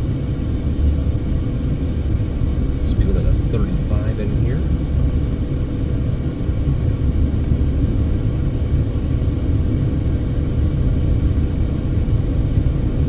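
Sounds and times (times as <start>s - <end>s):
car road and engine rumble: 0.0s - 13.0s
faint steady hum: 0.0s - 13.0s.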